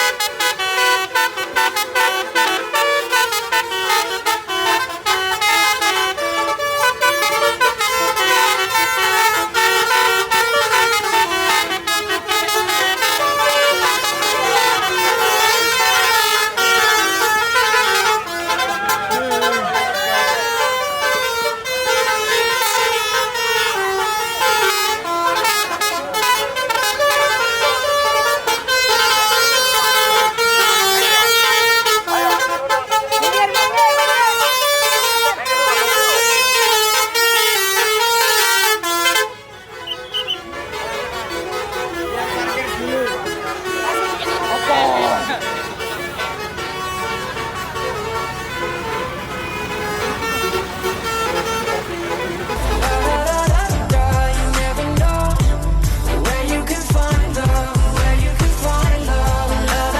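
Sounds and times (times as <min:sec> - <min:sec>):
bus melody horn playing tune: 0:00.0 - 0:59.9.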